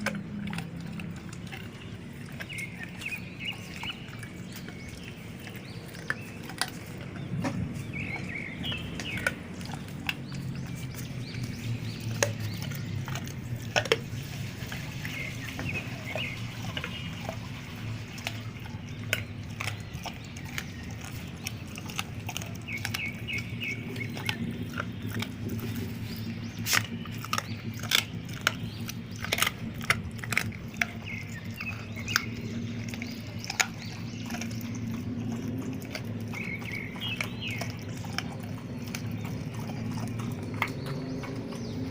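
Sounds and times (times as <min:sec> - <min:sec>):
birds chirping: 0:00.0 - 0:41.9
bone crunching: 0:00.0 - 0:41.9
dogs chewing: 0:00.0 - 0:41.9.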